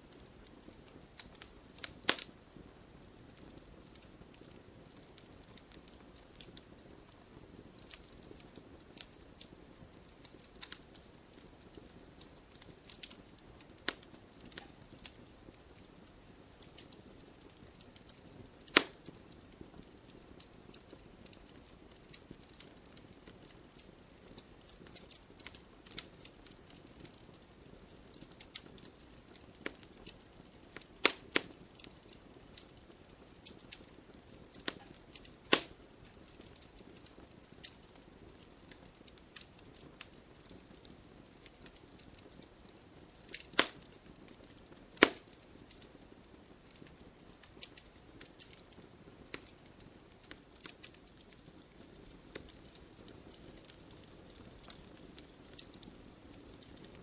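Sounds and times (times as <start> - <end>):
soft hiss: 0.0 - 57.0
wood fire crackling: 0.0 - 57.0
loud fire pops: 0.1 - 46.0, 46.7 - 57.0.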